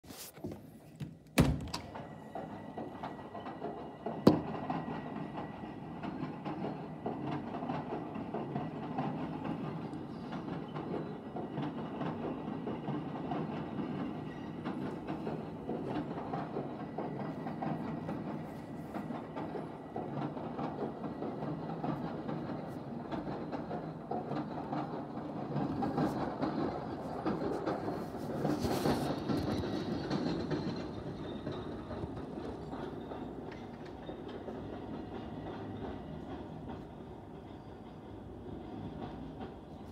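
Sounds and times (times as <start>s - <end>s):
train rumbling: 0.5s - 39.9s
wheels clicking over track: 1.2s - 39.9s.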